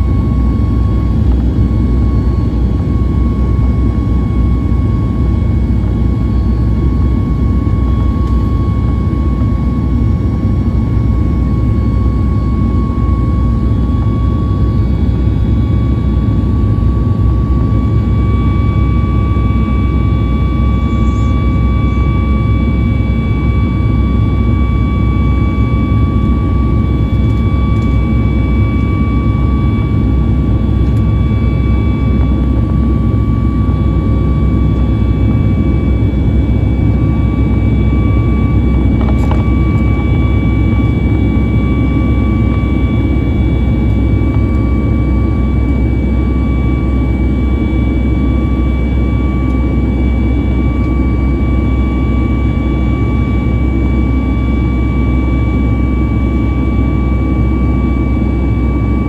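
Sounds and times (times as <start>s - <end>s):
high-pitched engine whine: 0.0s - 59.0s
jet engine deep rumble: 0.0s - 59.0s.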